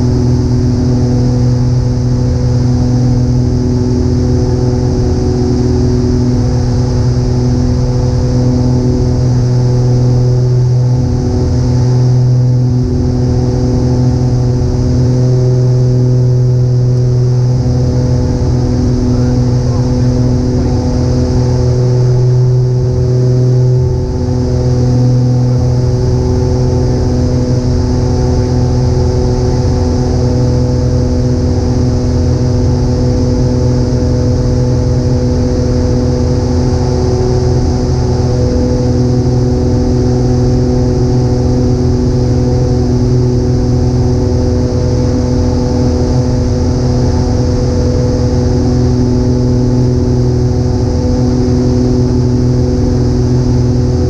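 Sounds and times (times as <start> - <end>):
airplane engines droning: 0.0 - 54.0.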